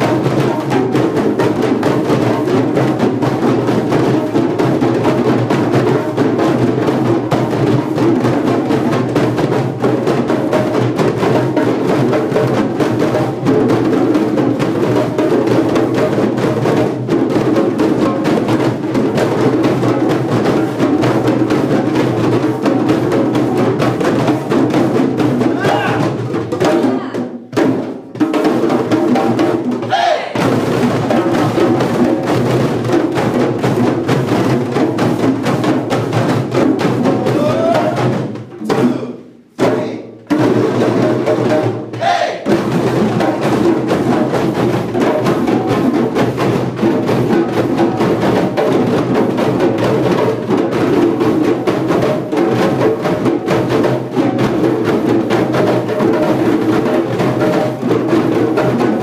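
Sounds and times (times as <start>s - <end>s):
djembe drums played by hand: 0.0s - 59.0s.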